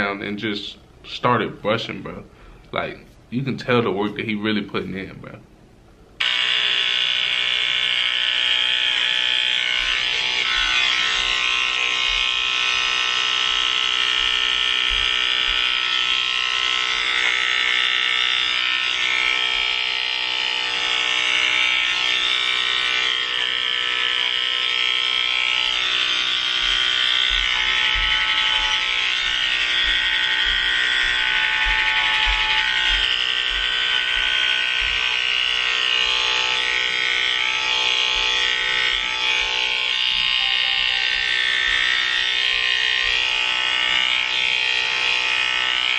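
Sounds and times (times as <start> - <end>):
electric hair clippers buzzing: 6.2 - 45.9.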